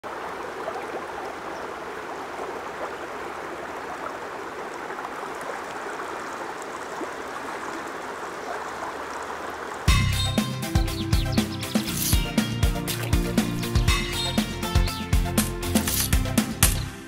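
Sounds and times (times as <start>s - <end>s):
creek babbling over stones: 0.0s - 14.2s.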